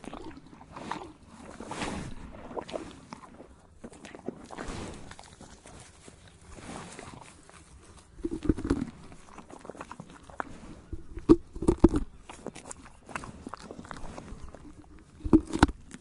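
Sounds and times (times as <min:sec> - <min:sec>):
horse chewing bark: 0:00.0 - 0:16.0.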